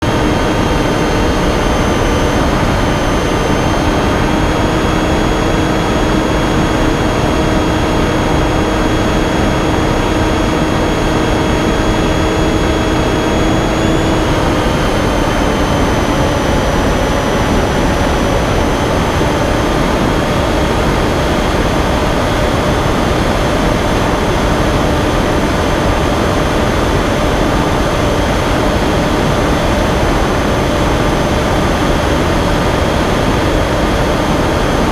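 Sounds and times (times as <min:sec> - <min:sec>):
electric motor and propeller whining: 0:00.0 - 0:34.9
wind noise: 0:00.0 - 0:34.9.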